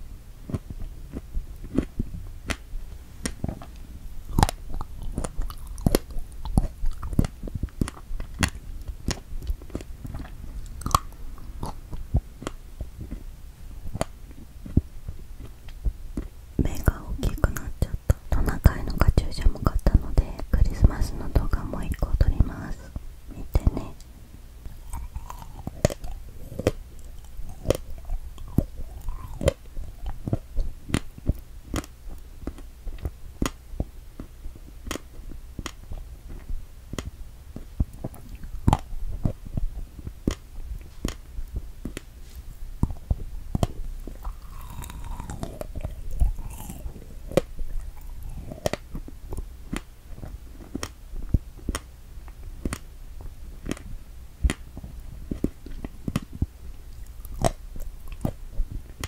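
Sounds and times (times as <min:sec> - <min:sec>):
close-miked chewing: 0:00.4 - 0:59.0.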